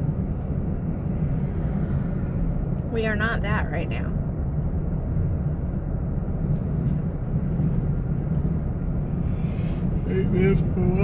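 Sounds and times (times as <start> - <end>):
truck road and engine rumble: 0.0 - 11.0.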